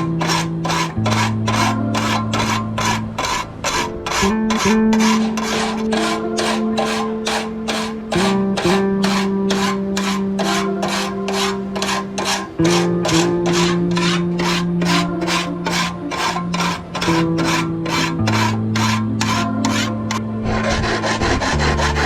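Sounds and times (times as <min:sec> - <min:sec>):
background music: 0:00.0 - 0:22.0
rasping strokes on metal: 0:00.0 - 0:22.0.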